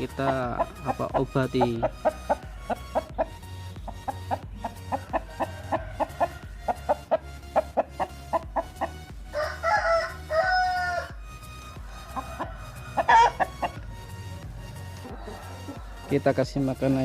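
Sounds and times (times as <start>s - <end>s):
chickens clucking: 0.0s - 11.0s, 11.7s - 16.7s.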